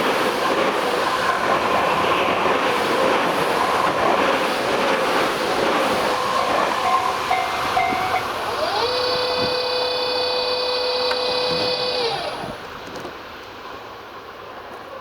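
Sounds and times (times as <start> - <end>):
electric train passing: 0.0 - 14.8
train whine: 0.0 - 14.9.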